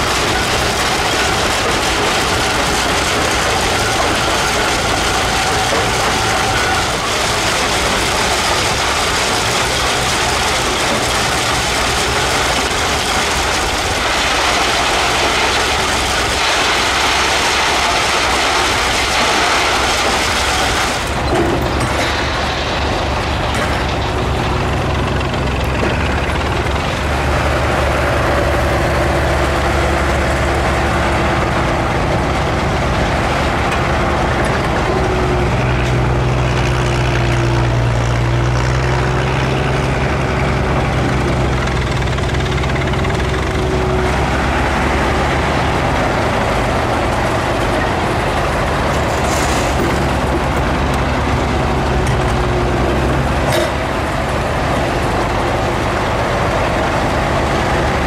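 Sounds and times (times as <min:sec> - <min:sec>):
rock crusher clattering: 0:00.0 - 0:55.2
power shovel engine beating: 0:00.0 - 0:58.0.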